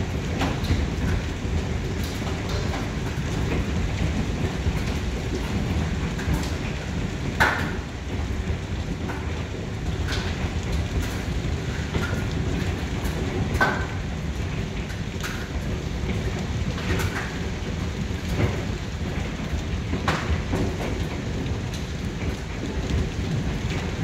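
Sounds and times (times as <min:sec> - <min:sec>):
hail and rain beating down: 0:00.0 - 0:24.0
hailstones striking: 0:00.0 - 0:24.0.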